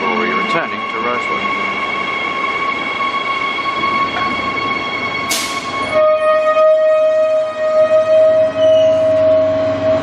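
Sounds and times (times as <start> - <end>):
electric train rumble: 0.0 - 10.0.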